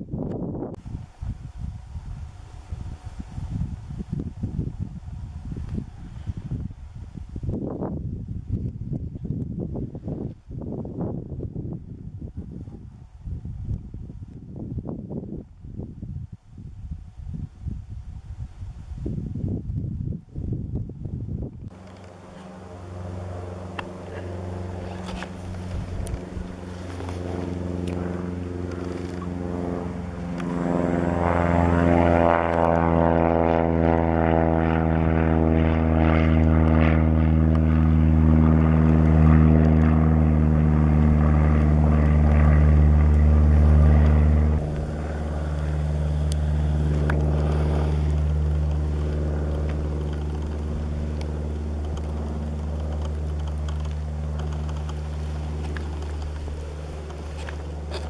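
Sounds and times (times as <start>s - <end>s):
propeller plane flying past: 0.0s - 58.0s.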